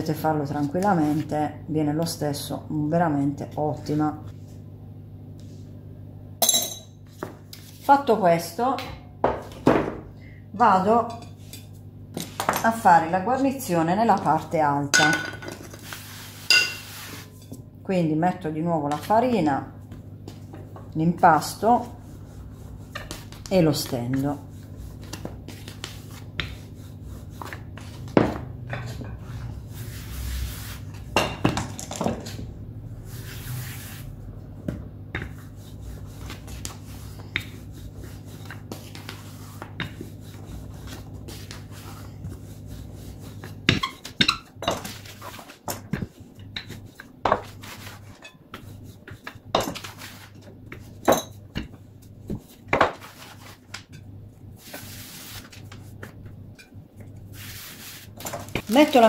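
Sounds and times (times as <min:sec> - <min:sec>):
rolling pin rolling dough: 0:10.6 - 0:17.6, 0:18.4 - 0:59.0.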